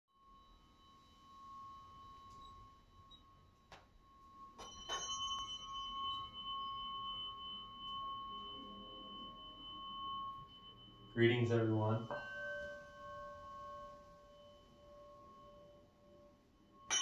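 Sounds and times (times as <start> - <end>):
higher ringing tone: 0.1 - 17.0
tuning fork ringing: 0.1 - 17.0.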